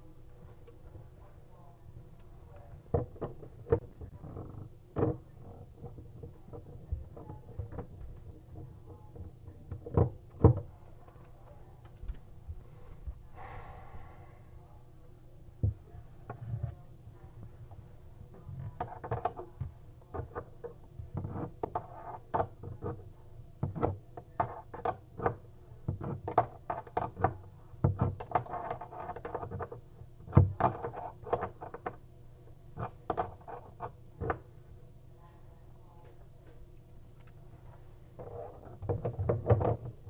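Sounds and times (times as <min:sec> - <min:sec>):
faint low hum: 0:00.0 - 0:40.0.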